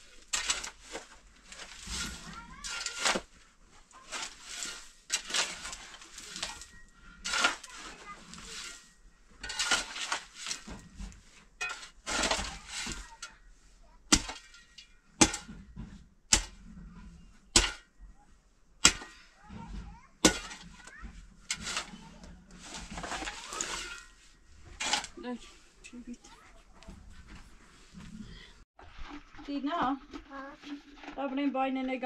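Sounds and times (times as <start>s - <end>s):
rustling or scraping: 0.0s - 32.0s.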